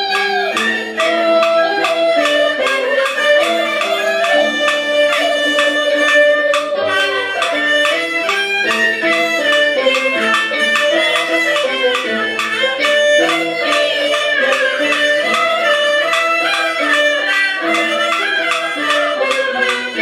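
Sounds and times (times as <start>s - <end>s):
two-string fiddle melody: 0.0s - 20.0s
wooden clapper clicking: 0.0s - 20.0s.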